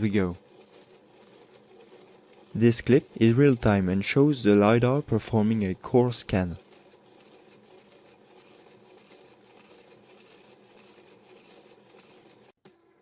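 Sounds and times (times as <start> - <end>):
scanner motor humming: 0.0 - 13.0.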